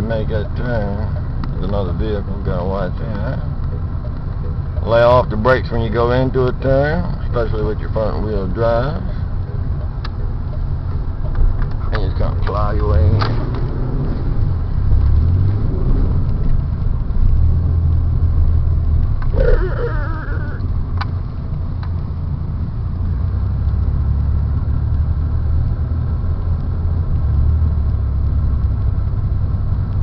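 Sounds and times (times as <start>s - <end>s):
car engine and road rumble: 0.0s - 30.0s.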